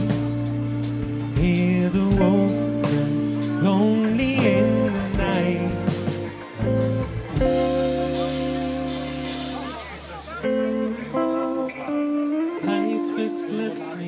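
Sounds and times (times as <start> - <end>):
man singing: 0.0 - 10.0, 11.7 - 14.0
live band playing slow song: 0.0 - 14.0.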